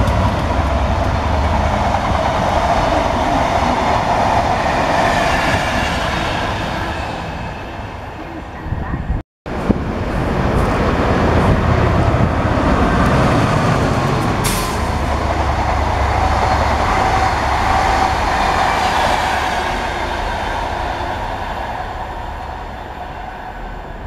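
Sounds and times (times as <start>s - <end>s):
diesel locomotive rumbling past: 0.0s - 24.0s
train coaches rushing by: 0.0s - 24.0s.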